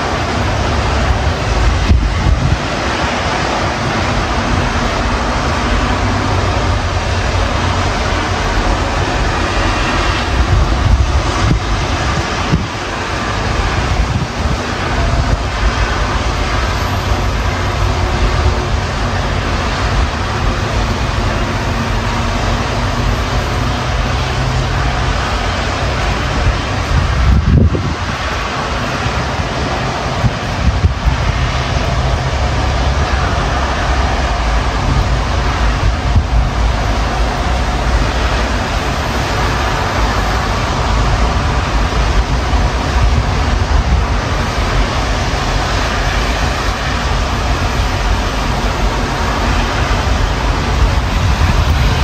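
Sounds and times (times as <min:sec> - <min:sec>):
road traffic noise: 0:00.0 - 0:52.0
storm wind buffeting microphone: 0:00.0 - 0:52.0.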